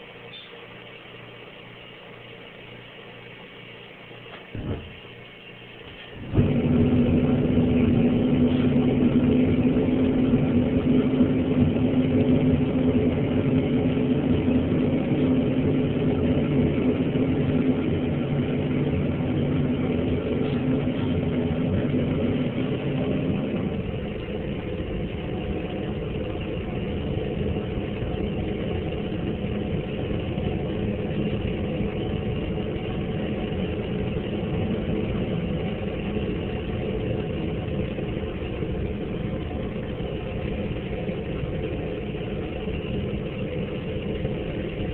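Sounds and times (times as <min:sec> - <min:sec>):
gas heater flame rushing: 0:00.0 - 0:44.9
low hum: 0:00.0 - 0:44.9.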